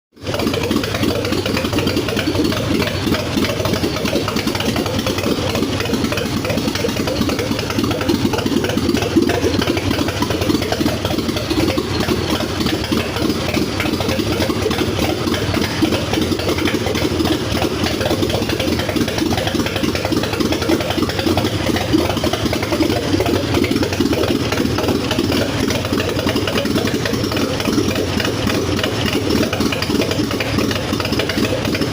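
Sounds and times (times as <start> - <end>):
car engine idling: 0.1 - 31.9.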